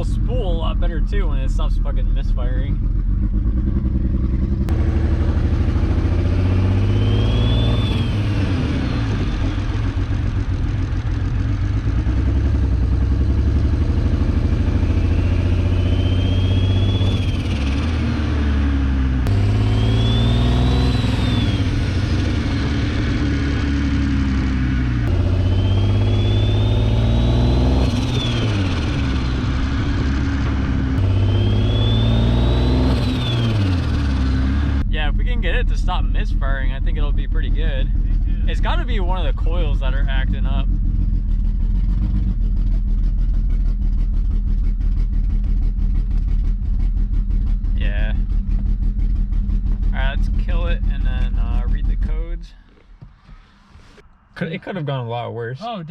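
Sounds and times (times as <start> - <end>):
car engine accelerating hard: 0.0 - 54.6
turbo whine: 0.0 - 54.9.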